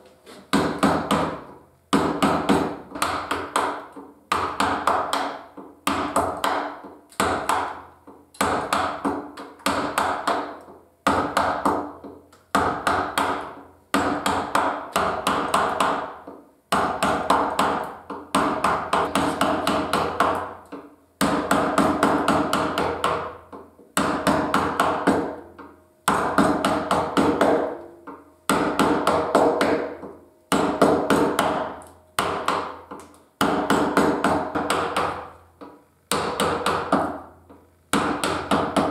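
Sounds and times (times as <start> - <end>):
mallet tapping a gouge into wood: 0.5 - 38.9.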